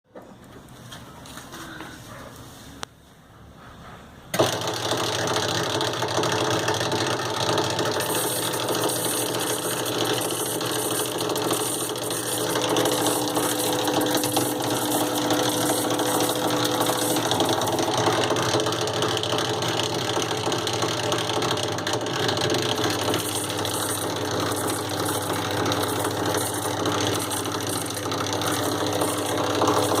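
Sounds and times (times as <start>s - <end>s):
washing machine whirring rattle: 3.4s - 30.0s.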